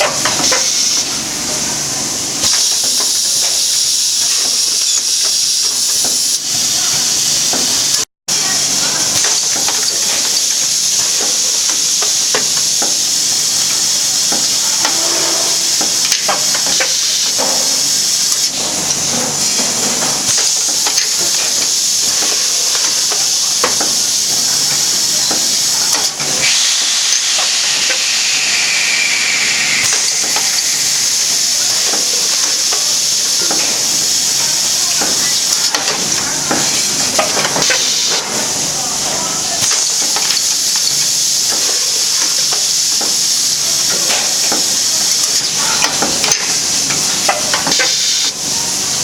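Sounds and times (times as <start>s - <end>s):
vacuum packing machine hiss: 0.0s - 49.0s.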